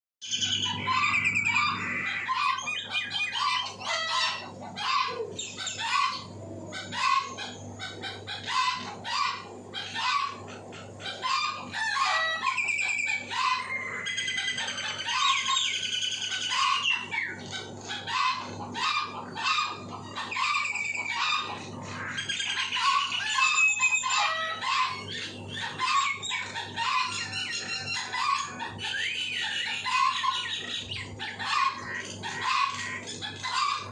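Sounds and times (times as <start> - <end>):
mynas whistling and chattering: 0.2 - 9.1, 9.7 - 33.9
chickens clucking: 0.4 - 33.9.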